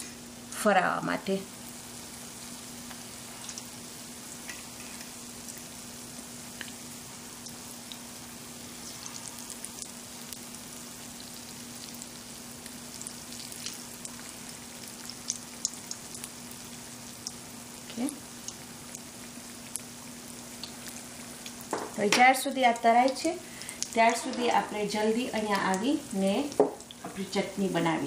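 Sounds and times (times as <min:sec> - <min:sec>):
food deep-frying in oil: 0:00.0 - 0:28.0
oil crackles and pops: 0:01.6 - 0:27.0.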